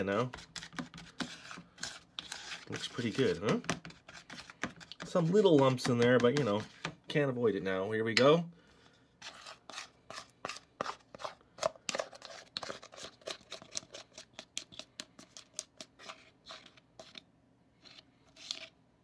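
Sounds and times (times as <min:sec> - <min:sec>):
spatula scraping plastic bowl: 0:00.0 - 0:07.1, 0:09.2 - 0:17.2, 0:17.8 - 0:18.8.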